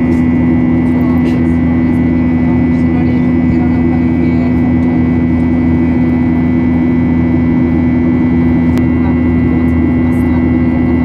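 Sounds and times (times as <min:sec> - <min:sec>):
jet engine drone from cabin: 0:00.0 - 0:11.0.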